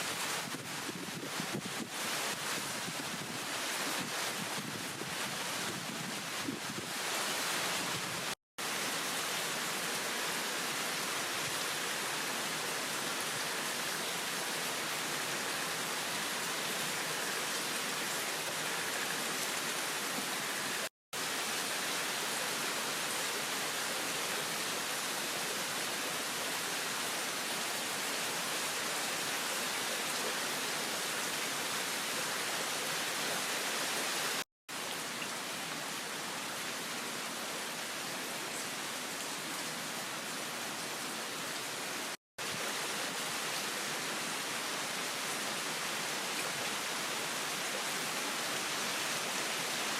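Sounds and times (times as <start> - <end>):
heavy rain downpour: 0.0 - 49.9.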